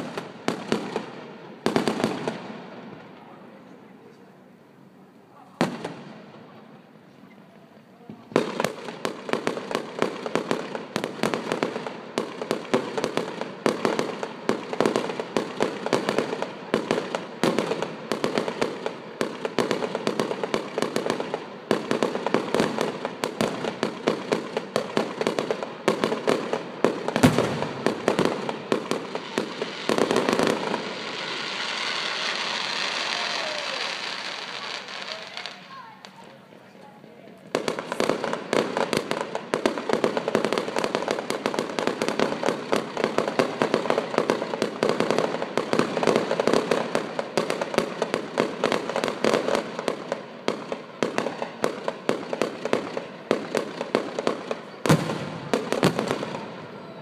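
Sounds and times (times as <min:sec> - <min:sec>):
fireworks bangs and crackles: 0:00.0 - 0:04.6, 0:05.2 - 0:57.0
steady crackling hiss: 0:00.0 - 0:56.9.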